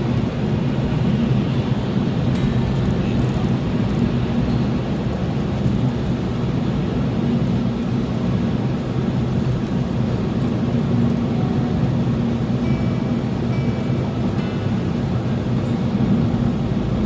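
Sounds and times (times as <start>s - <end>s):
car driving road noise: 0.0s - 17.0s.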